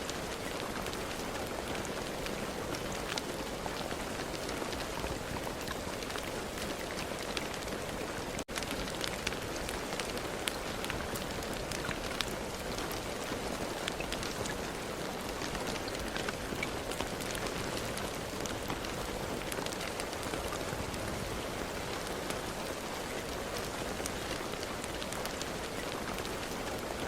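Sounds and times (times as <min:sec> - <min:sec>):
raindrops ticking on hard surface: 0:00.1 - 0:27.0.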